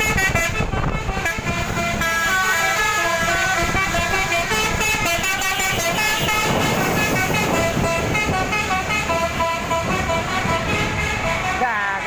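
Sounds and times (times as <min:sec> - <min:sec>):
bus rumbling: 0:00.0 - 0:12.0
multi-tone bus horn melody: 0:00.0 - 0:12.0.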